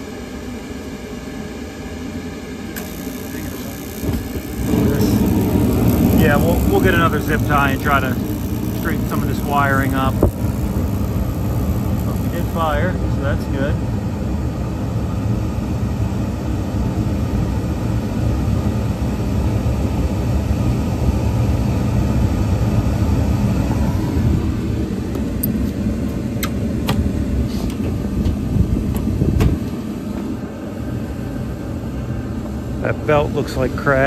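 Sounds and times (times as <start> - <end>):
gas heating unit rumbling: 0.0 - 34.0.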